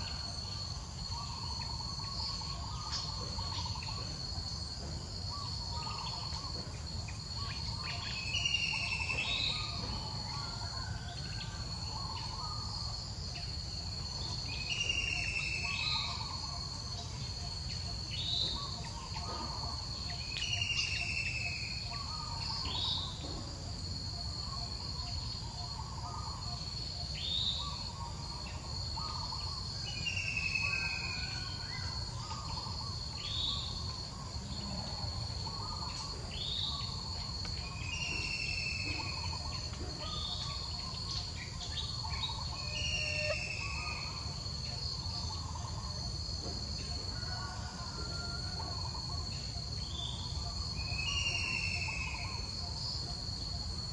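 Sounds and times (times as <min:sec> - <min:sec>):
insects droning: 0:00.0 - 0:53.9
bird chirps: 0:01.1 - 0:23.5, 0:24.2 - 0:46.1.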